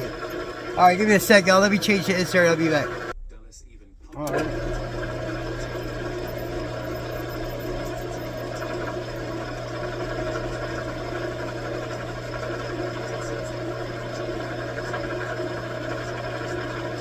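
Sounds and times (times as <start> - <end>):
metal lathe motor hum: 0.0 - 3.2, 4.3 - 17.0.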